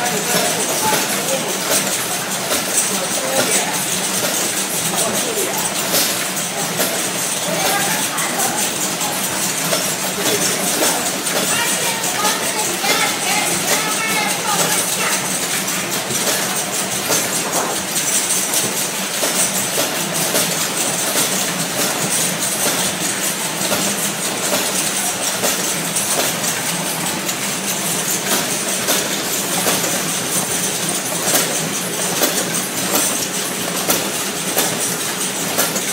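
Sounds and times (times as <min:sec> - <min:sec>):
machine clattering: 0:00.0 - 0:35.9.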